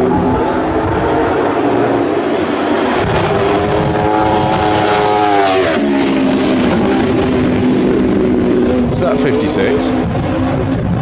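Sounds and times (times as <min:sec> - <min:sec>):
motorcycle passing at speed: 0:00.0 - 0:11.0.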